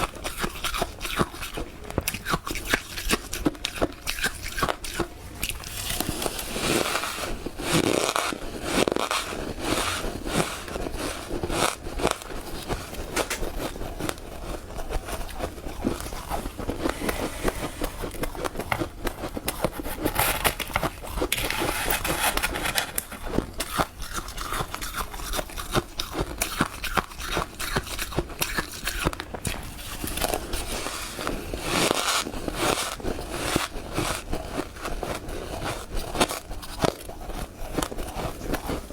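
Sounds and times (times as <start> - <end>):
frost crunching and scraping: 0.0 - 38.9.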